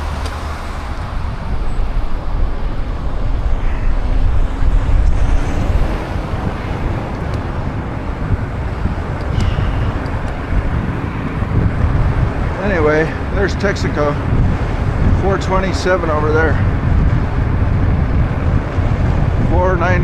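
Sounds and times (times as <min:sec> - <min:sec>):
cars passing: 0:00.0 - 0:19.5
wind rumble on microphone: 0:00.0 - 0:20.0.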